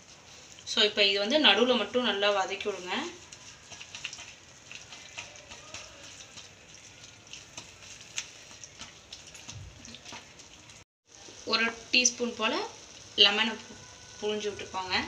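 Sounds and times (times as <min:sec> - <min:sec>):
onions frying in butter: 0:00.0 - 0:15.0.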